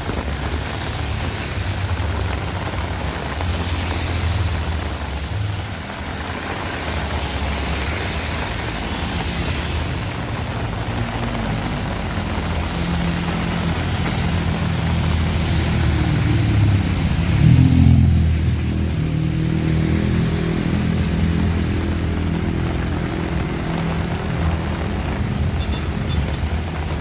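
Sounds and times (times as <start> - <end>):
heavy rain hiss: 0.0 - 27.0
vehicle engine passing: 1.0 - 27.0.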